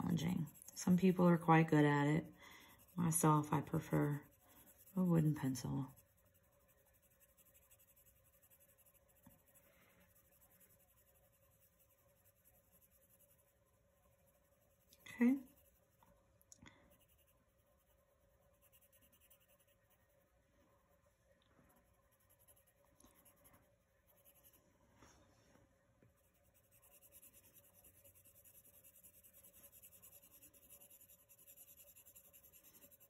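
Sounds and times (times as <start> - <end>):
pencil scratching on paper: 0.0 - 16.0, 16.9 - 20.2, 21.8 - 24.6, 26.2 - 33.0.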